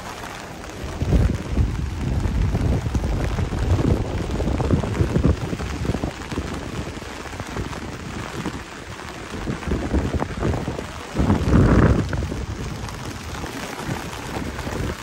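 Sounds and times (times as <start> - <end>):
heavy rain on an umbrella: 0.0 - 15.0.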